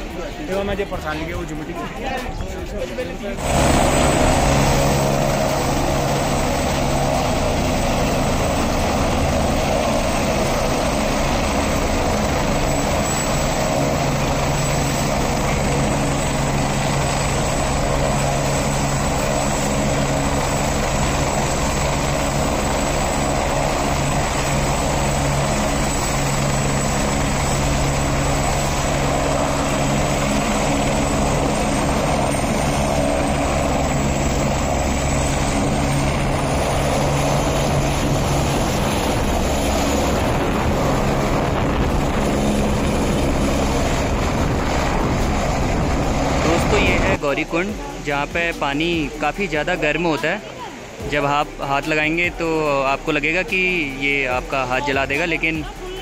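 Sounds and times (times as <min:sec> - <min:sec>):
helicopter idling: 0:00.0 - 0:56.0.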